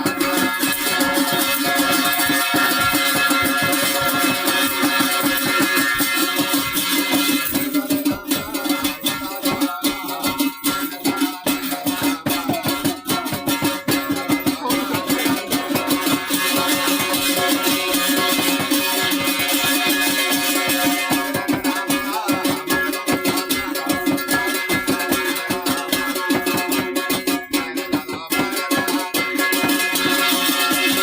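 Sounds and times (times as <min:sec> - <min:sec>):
instrumental folk dance music: 0:00.0 - 0:31.0.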